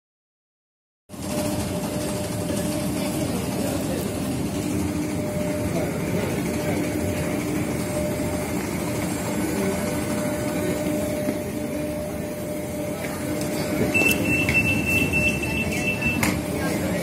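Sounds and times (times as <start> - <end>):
train hum and rumble: 1.1 - 17.0
high warning tone: 1.2 - 17.0.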